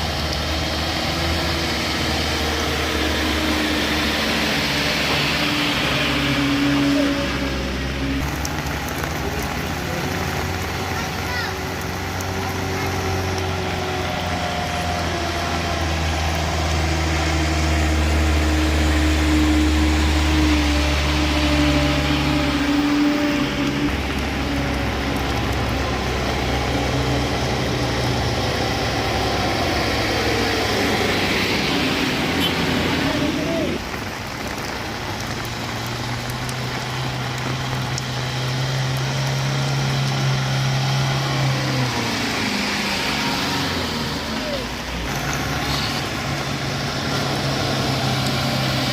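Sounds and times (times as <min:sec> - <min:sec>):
large vehicle engine running: 0:00.0 - 0:48.9.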